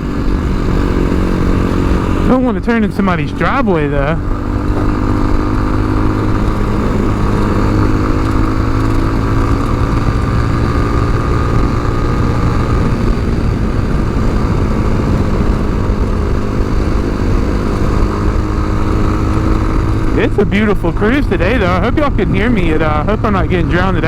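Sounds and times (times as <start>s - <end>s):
motorcycle engine cruising: 0.0s - 24.0s
wind noise: 0.0s - 24.0s.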